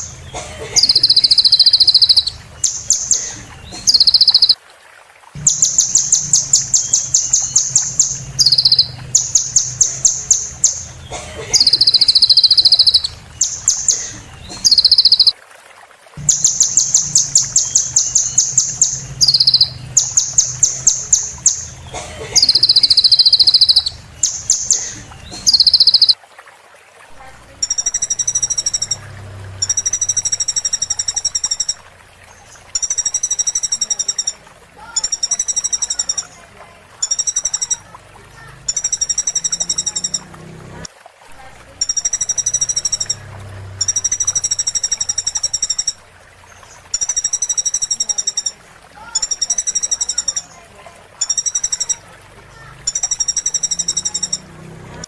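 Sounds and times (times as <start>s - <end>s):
recorded songbird trills: 0.0s - 4.6s, 5.4s - 15.4s, 16.2s - 26.2s, 27.4s - 40.4s, 41.8s - 54.6s.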